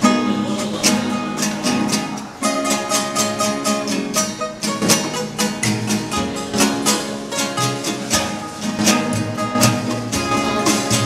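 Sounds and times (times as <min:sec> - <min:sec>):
acoustic guitars strumming: 0:00.0 - 0:11.0.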